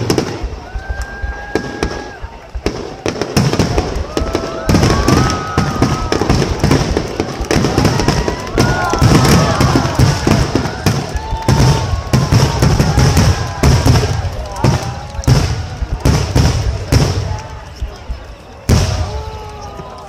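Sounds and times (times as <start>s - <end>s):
firework bangs and crackles: 0.0s - 20.0s.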